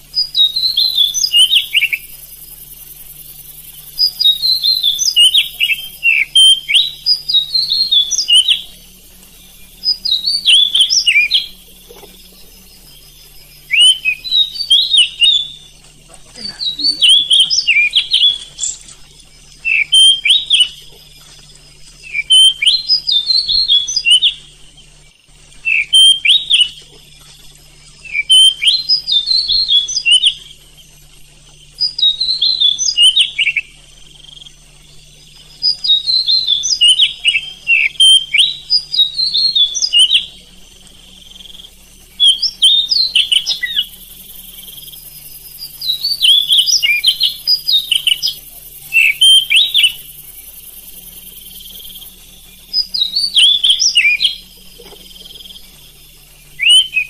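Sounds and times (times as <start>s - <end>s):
bird singing whistles and chirps: 0.0s - 27.1s, 27.7s - 57.0s.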